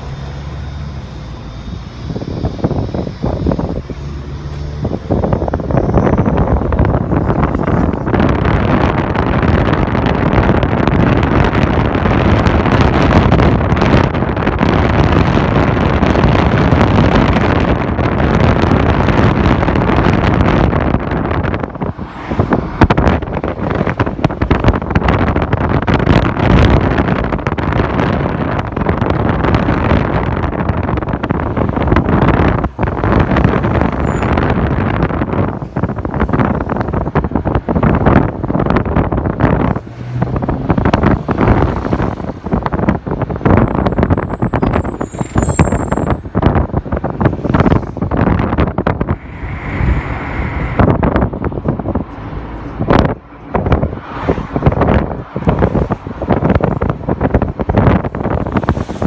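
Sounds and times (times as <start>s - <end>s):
low engine hum: 0.0s - 59.0s
wind and road noise in car: 0.0s - 59.0s
wind buffeting microphone: 0.0s - 59.0s.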